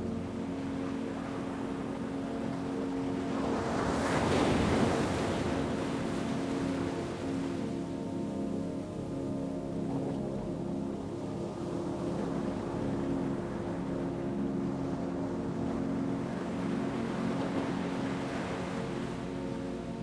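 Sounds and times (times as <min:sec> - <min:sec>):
low ambient music drone: 0:00.0 - 0:20.0.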